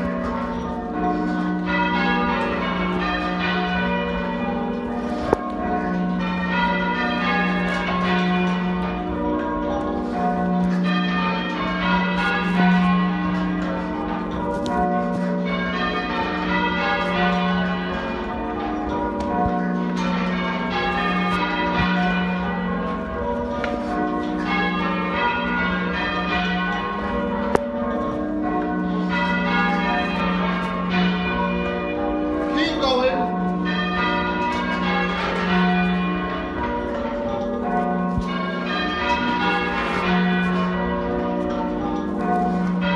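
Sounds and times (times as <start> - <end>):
muffled church bells ringing: 0.0 - 42.9.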